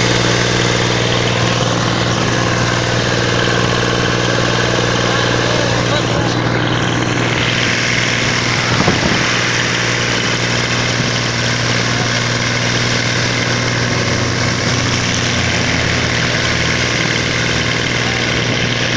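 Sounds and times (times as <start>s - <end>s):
tractor engine humming: 0.0s - 18.9s.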